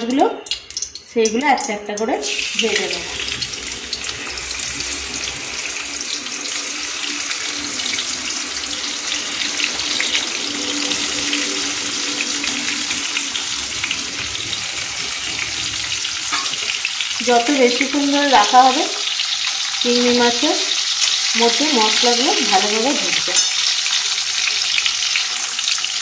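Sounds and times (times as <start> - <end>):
prawns sizzling in hot oil: 0.1 - 26.0.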